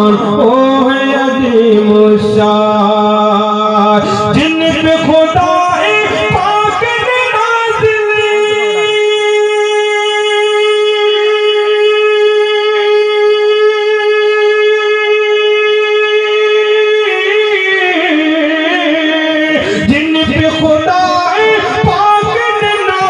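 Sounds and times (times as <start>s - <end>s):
man singing long note: 0.0s - 23.0s.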